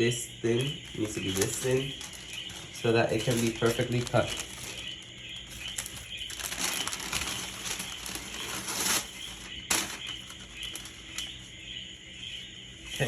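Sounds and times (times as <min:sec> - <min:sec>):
paper rustling and crinkling: 0:00.6 - 0:11.5.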